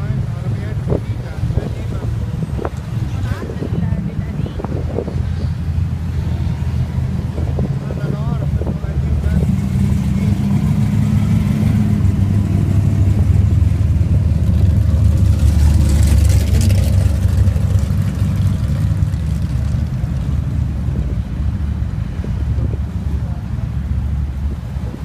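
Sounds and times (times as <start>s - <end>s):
deep car engine rumble: 0.0s - 25.0s.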